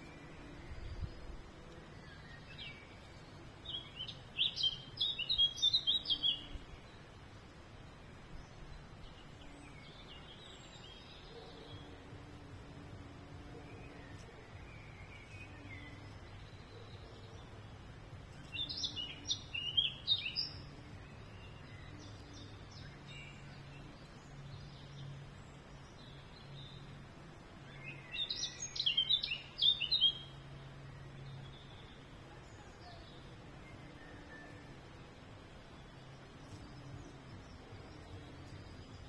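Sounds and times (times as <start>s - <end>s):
faint low hum: 0.0s - 39.0s
songbird chirping: 0.0s - 39.0s.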